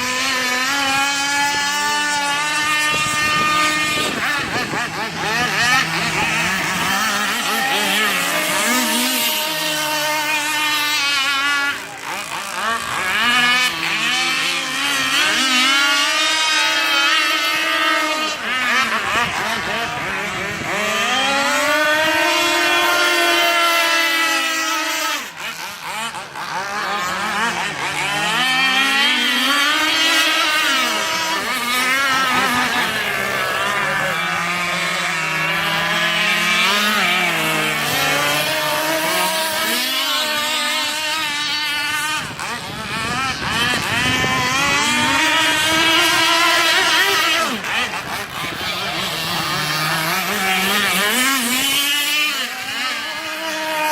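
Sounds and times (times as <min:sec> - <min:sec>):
model boat engine revving: 0:00.0 - 0:53.9.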